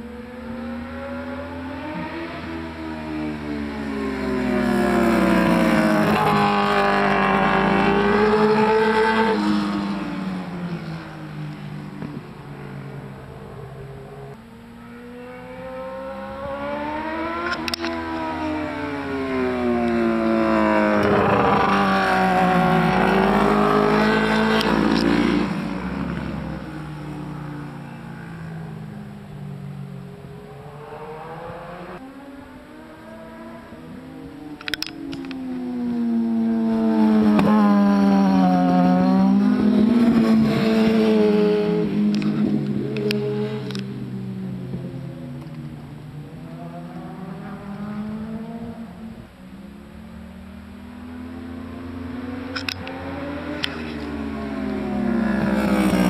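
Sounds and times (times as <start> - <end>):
motorcycles passing at speed: 0.0 - 56.0.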